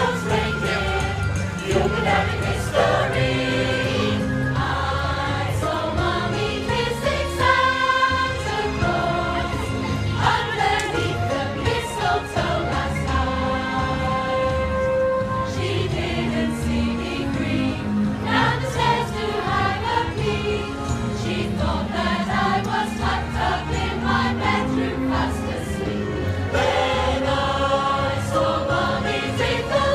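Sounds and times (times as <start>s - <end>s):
mixed choir singing a carol: 0.0s - 29.9s.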